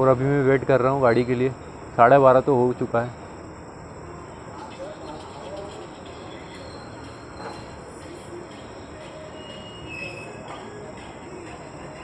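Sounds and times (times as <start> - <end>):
distant voices: 0.0 - 12.0
insect chirring: 0.0 - 12.0.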